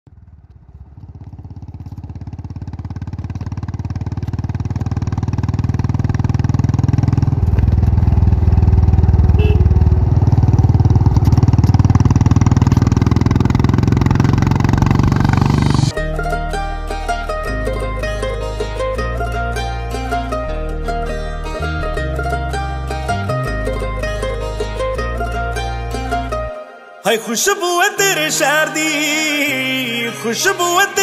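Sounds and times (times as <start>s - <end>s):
motorcycle engine running: 0.1s - 26.3s.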